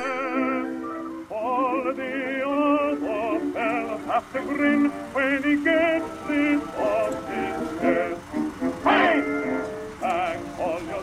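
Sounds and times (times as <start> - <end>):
person singing with heavy vibrato: 0.0 - 11.0
sustained musical accompaniment: 0.0 - 11.0.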